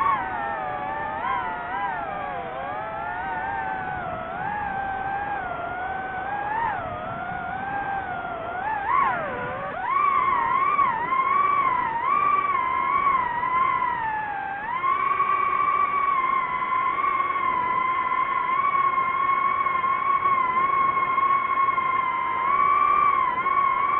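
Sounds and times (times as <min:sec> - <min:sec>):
drone propellers whining: 0:00.0 - 0:23.9.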